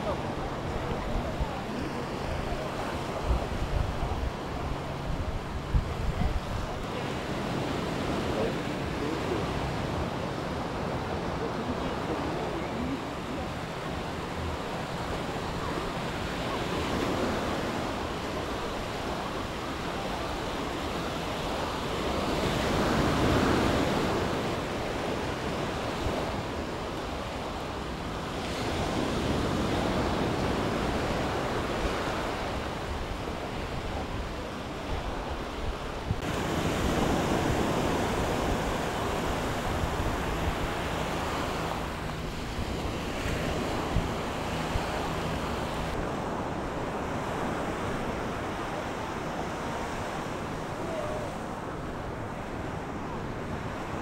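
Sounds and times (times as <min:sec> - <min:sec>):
waves washing up a sandy shore: 0:00.0 - 0:54.0
wind rumble on microphone: 0:00.0 - 0:54.0.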